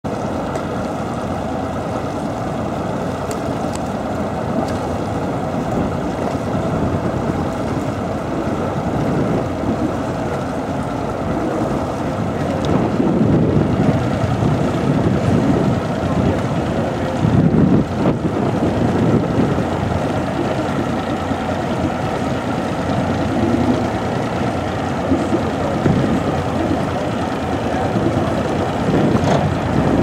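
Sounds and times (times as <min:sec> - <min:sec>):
boat motor rumbling: 0:00.0 - 0:30.0
wind buffeting microphone: 0:01.7 - 0:30.0.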